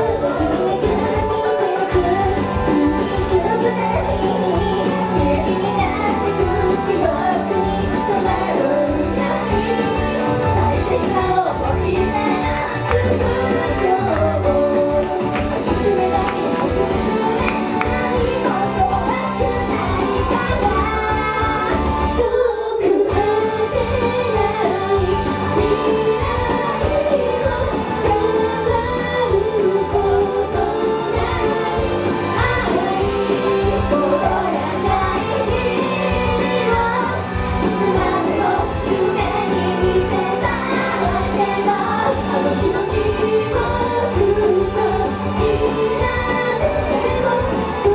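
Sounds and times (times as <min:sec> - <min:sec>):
loud backing music: 0:00.0 - 0:47.9
person singing pop song: 0:00.0 - 0:47.9.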